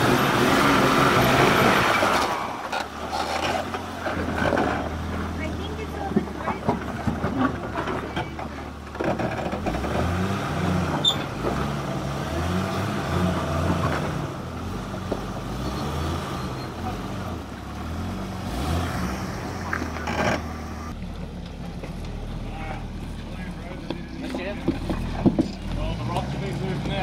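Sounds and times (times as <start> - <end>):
car engine revving under load: 0.0 - 27.0.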